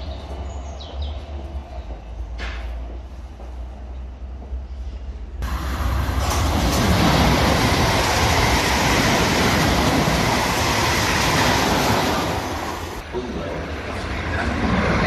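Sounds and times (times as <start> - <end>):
electric trains passing at speed: 0.0 - 15.0.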